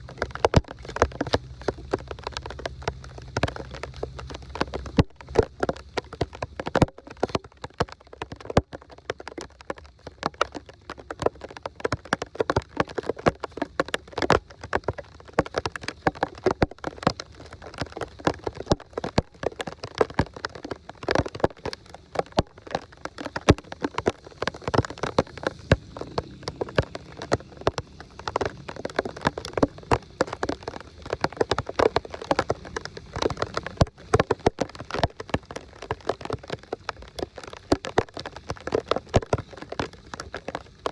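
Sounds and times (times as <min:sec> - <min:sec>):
rain and splashing water: 0:00.0 - 0:40.9.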